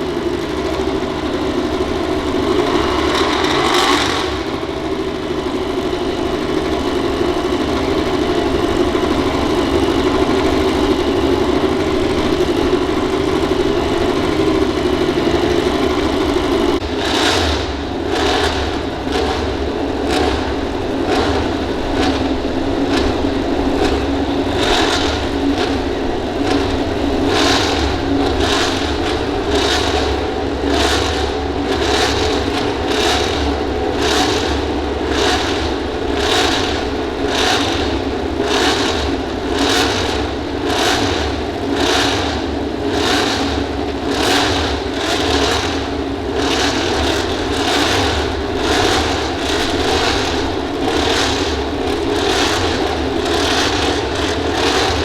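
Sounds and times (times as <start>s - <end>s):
race motorcycle engines: 0.0s - 55.0s.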